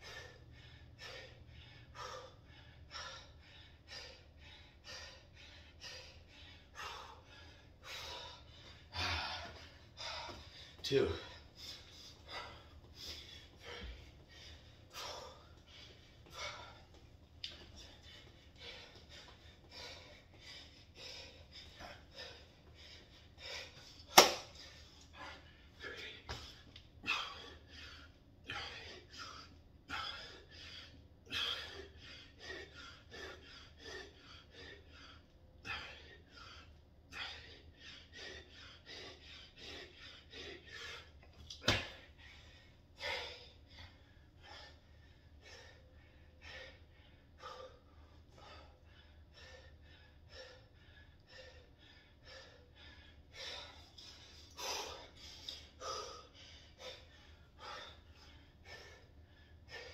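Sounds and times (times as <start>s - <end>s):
man breathing heavily: 0.0s - 59.9s.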